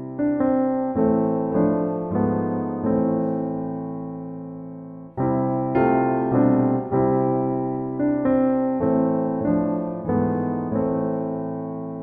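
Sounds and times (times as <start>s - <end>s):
soft slow piano music: 0.0s - 12.0s.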